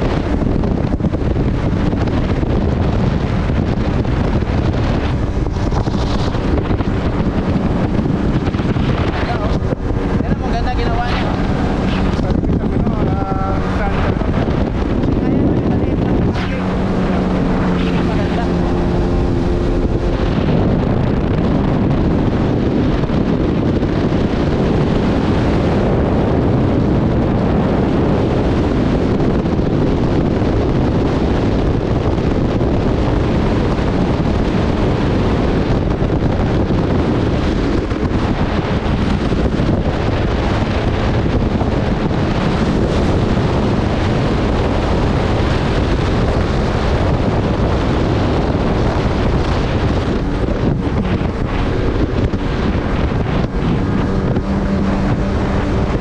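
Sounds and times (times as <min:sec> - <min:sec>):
jet ski engine drone: 0:00.0 - 0:56.0
wind rushing over microphone: 0:00.0 - 0:56.0.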